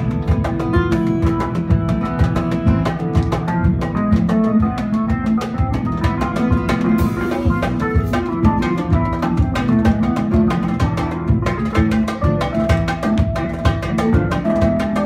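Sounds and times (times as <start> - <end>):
acoustic guitar plucking: 0.0 - 15.0
drum kit beat: 0.0 - 15.0
electric bass: 0.0 - 15.0
oud plucking: 0.0 - 15.0.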